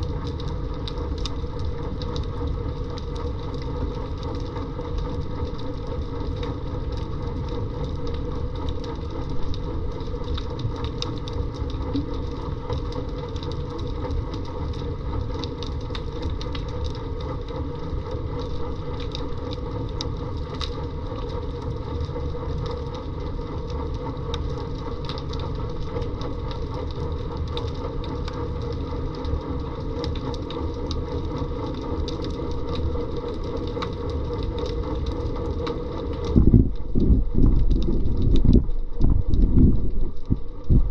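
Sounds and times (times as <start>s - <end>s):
crackle of small sharp clicks: 0.0s - 40.9s
underwater mechanical hum: 0.0s - 40.9s.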